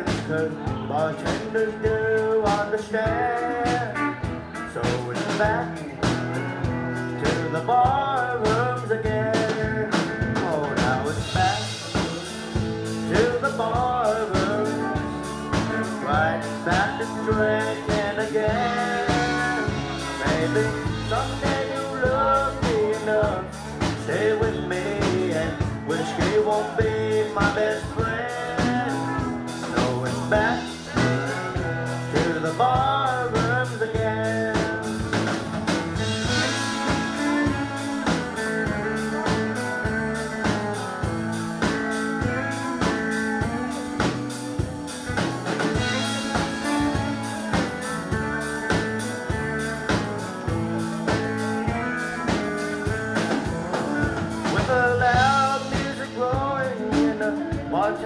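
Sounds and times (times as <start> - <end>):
live country band playing: 0.0 - 58.0.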